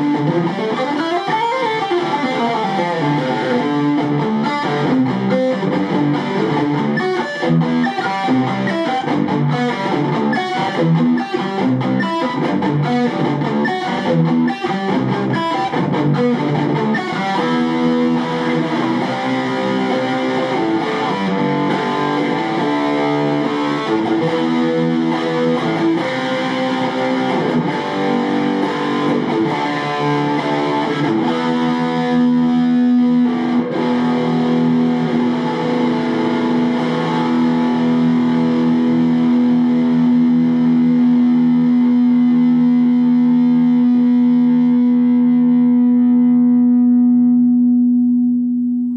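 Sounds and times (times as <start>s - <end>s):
distorted electric guitar: 0.0s - 48.9s.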